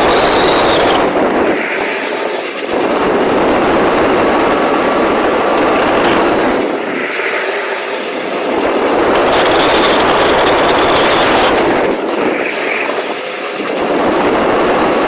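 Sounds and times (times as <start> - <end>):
radio-controlled car running: 0.0 - 15.0.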